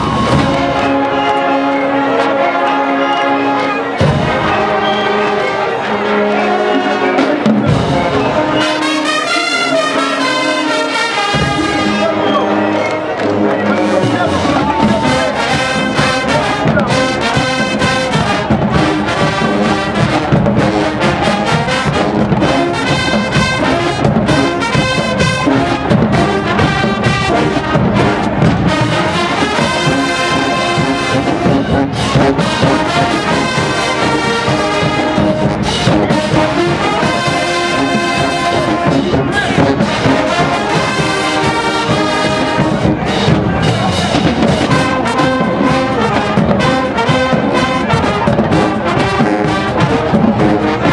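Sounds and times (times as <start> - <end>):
marching band brass: 0.0 - 50.9
marching drums: 0.0 - 50.9.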